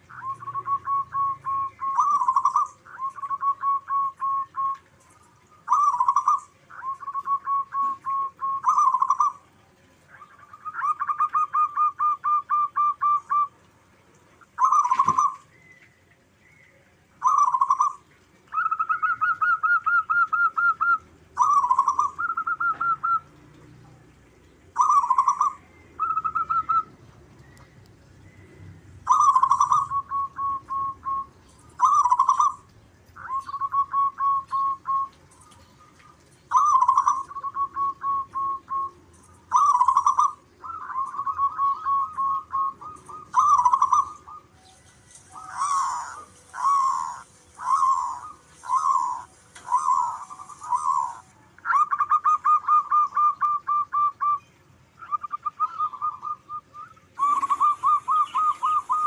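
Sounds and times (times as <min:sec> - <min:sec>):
doves cooing: 0:00.0 - 0:16.2, 0:16.8 - 0:54.4, 0:55.0 - 0:59.0.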